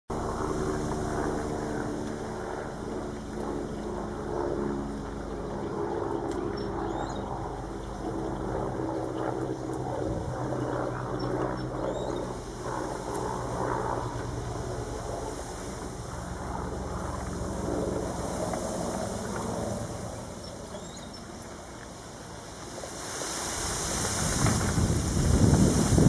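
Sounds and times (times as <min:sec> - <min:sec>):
engine drone: 0:00.1 - 0:26.0.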